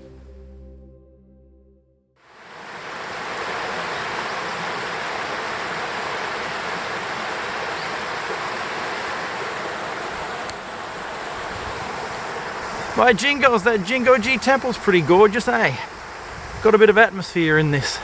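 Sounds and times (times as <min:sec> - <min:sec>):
fast-flowing stream rushing: 0:02.3 - 0:18.0.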